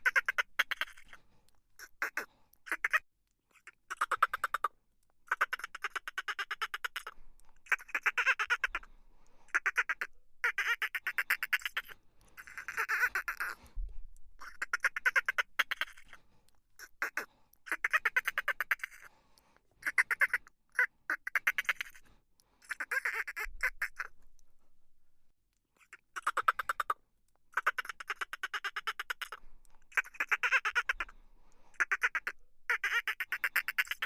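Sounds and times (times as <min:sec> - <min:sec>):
rattling croak-like animal calls: 0:00.0 - 0:01.2, 0:01.8 - 0:03.0, 0:03.6 - 0:08.9, 0:09.5 - 0:13.6, 0:14.4 - 0:16.2, 0:16.8 - 0:19.1, 0:19.8 - 0:22.0, 0:22.6 - 0:24.2, 0:25.8 - 0:34.0.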